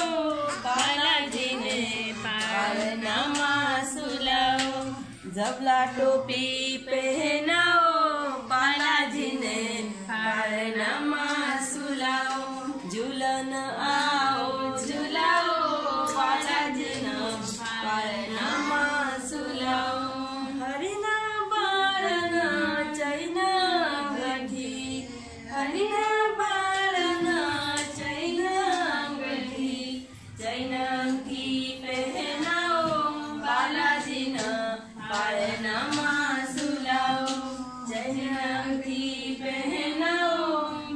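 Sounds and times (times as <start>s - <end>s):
women singing a cradle song: 0.0s - 40.9s.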